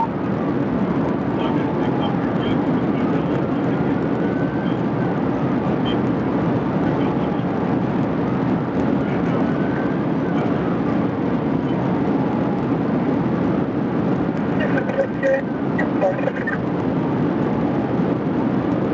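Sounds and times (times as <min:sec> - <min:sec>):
car road and engine noise: 0:00.0 - 0:18.9.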